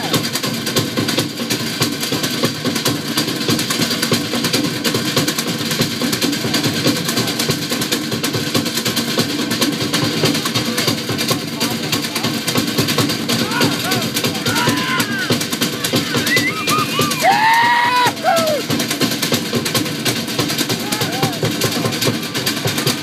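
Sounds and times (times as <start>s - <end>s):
drums in fast rhythm: 0.0s - 23.0s.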